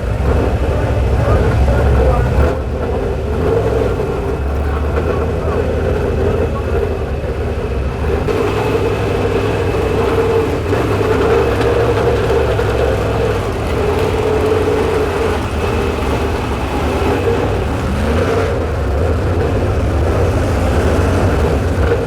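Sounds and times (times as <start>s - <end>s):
vehicle engines droning: 0.0s - 22.0s.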